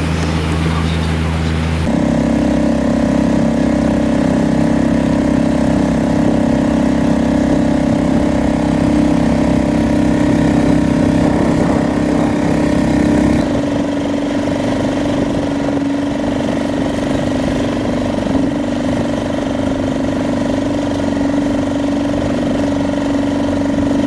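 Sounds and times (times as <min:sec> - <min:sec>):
small boat motor droning: 0:00.0 - 0:24.0.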